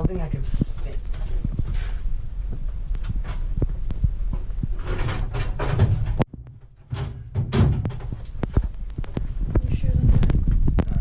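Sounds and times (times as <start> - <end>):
low rumble: 0.0 - 11.0
rustling: 0.0 - 11.0
knocks and clatter: 0.8 - 11.0.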